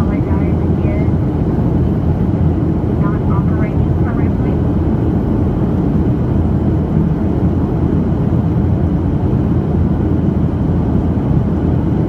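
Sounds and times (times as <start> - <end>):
jet engine rumble in cabin: 0.0 - 12.0.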